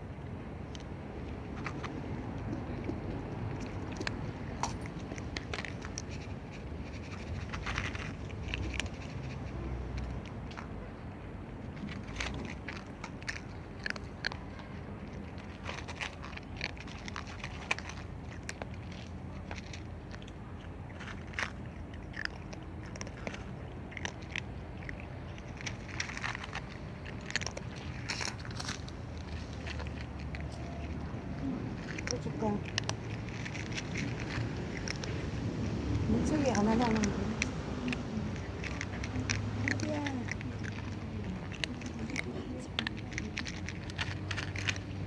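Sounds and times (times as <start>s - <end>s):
cat chewing food: 0.0s - 45.0s.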